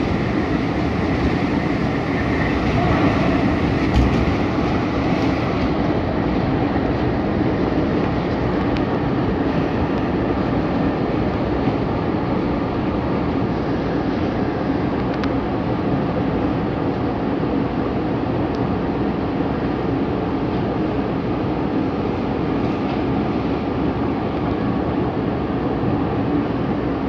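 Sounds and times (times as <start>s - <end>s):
constant low hum: 0.0s - 27.0s
wheels rumbling on rails: 0.0s - 27.0s.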